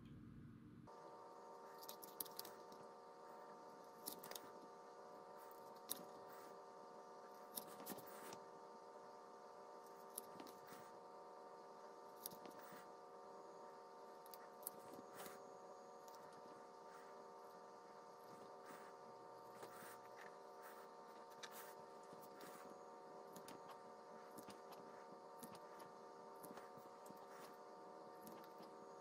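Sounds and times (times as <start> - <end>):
faint steady tone: 0.0 - 29.0.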